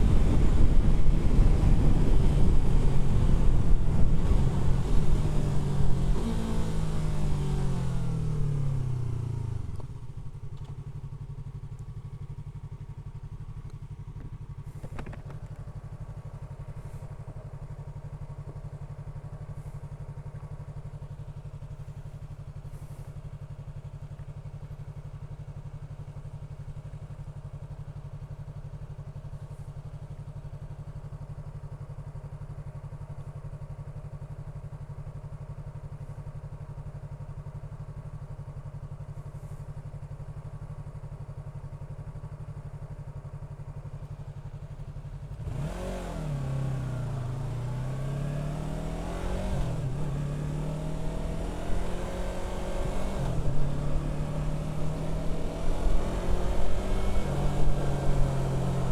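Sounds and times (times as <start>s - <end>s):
motorcycle accelerating through gears: 0.0s - 58.9s
motorcycle engine idling: 0.0s - 58.9s.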